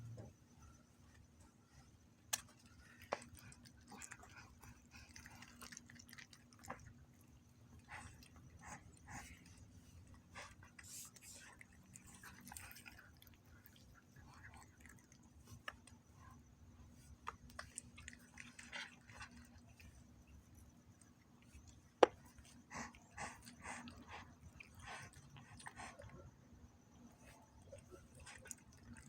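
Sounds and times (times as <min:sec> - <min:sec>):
cats crunching food: 0:01.6 - 0:26.2, 0:26.9 - 0:29.0.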